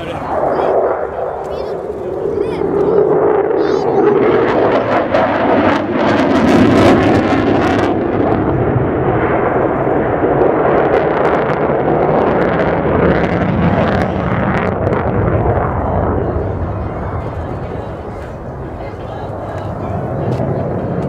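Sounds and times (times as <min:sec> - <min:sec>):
harsh jet crackle: 0:00.0 - 0:19.0
jet engine roar overhead: 0:00.0 - 0:21.0.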